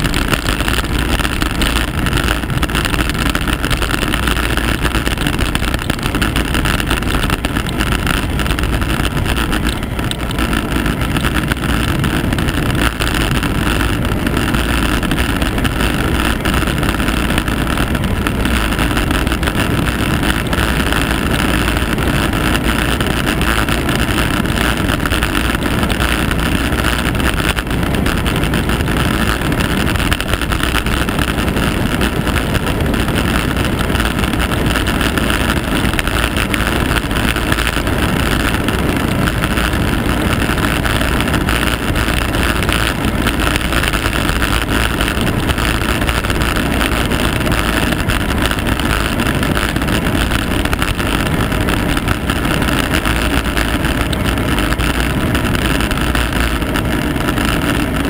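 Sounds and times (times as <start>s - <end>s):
road rumble: 0.0s - 58.0s
wind buffeting microphone: 0.0s - 58.0s.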